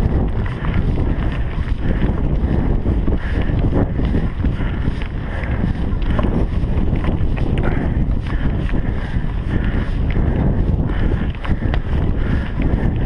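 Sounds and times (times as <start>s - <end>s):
bike rattles and knocks: 0.0s - 13.0s
steady rumble: 0.0s - 13.0s
wind buffeting microphone: 0.0s - 13.0s.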